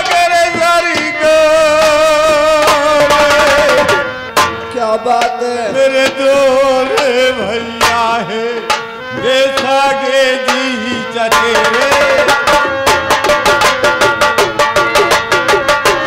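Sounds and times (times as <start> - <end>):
ornamented melody instrument: 0.0 - 16.0.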